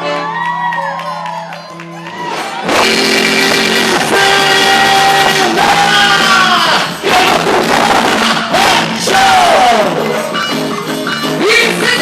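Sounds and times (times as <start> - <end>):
music with long held notes: 1.7 - 12.0.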